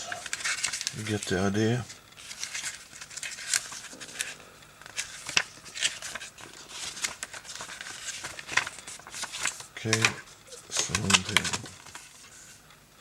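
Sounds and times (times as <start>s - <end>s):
paper rustling and sliding: 0.0s - 12.6s.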